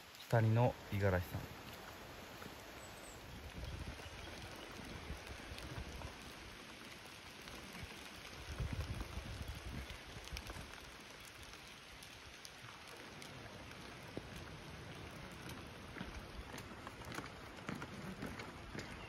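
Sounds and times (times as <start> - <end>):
light rain patter: 0.0 - 19.0.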